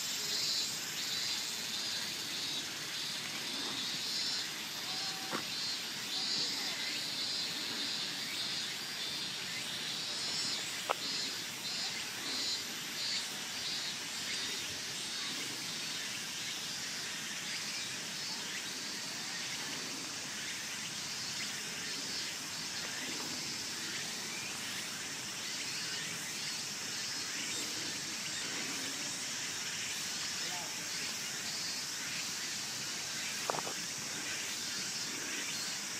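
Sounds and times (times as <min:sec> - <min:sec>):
outdoor background hiss: 0:00.0 - 0:35.9.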